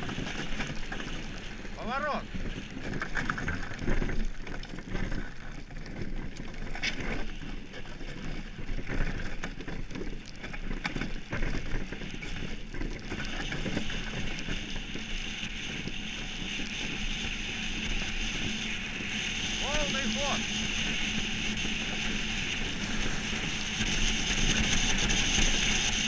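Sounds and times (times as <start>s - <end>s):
steel runners rumbling over ice: 0.0s - 26.0s.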